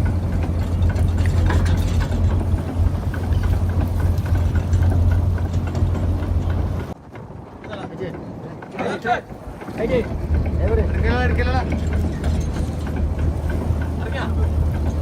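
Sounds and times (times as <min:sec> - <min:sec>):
boat engine humming: 0:00.0 - 0:15.0
faint clatter: 0:00.0 - 0:15.0
water noise: 0:00.0 - 0:15.0.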